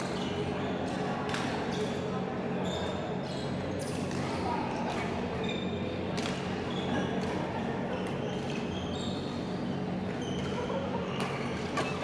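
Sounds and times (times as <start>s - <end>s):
shoes squeaking on court floor: 0.0s - 12.0s.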